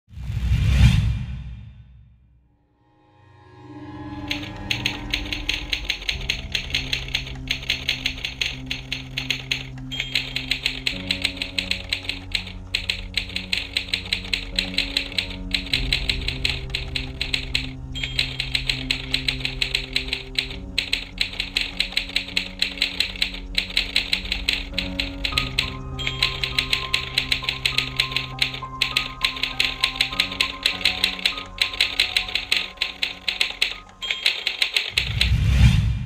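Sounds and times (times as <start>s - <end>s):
spooky music with low notes: 2.7s - 36.0s
typewriter key clacks: 4.3s - 35.3s.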